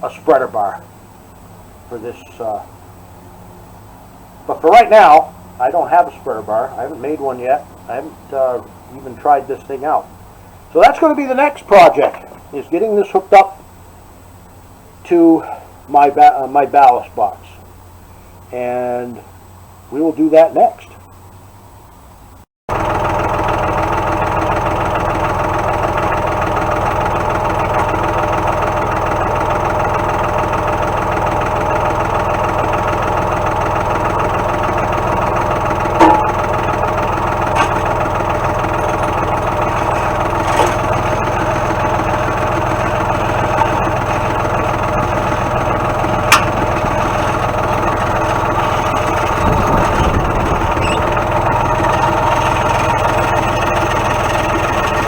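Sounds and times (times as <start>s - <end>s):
tractor engine idling: 0.0s - 20.4s, 22.7s - 55.0s.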